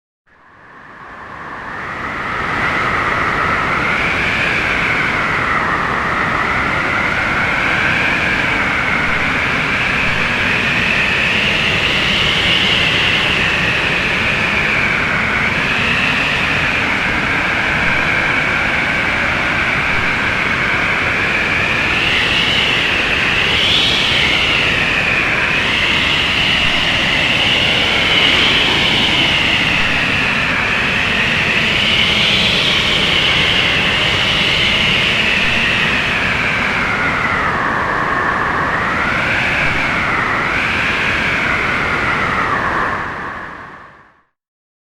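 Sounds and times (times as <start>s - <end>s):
howling blizzard wind: 0.3s - 44.3s.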